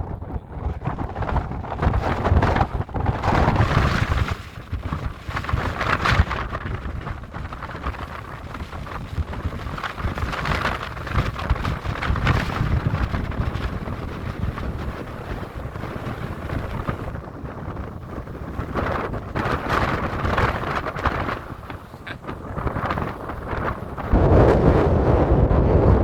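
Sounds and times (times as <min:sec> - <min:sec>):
gusting wind buffeting microphone: 0:00.0 - 0:26.0.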